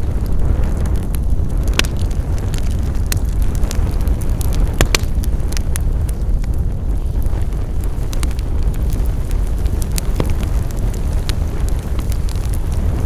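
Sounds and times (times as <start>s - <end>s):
low rumble of flames: 0.0s - 13.0s
wood fire pops and snaps: 0.0s - 13.0s.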